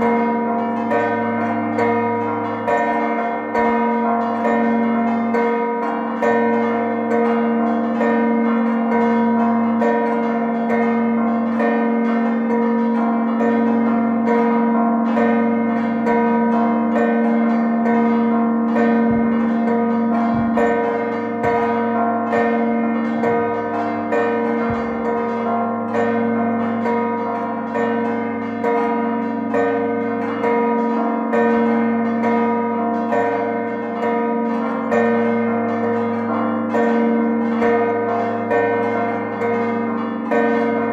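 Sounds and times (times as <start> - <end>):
church bells ringing a peal: 0.0 - 40.9.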